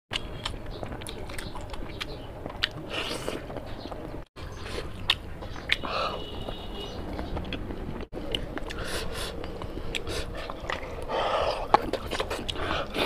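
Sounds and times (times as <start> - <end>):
sharp wet clicks: 0.1 - 5.9, 7.1 - 13.0
person chewing food: 0.1 - 13.0.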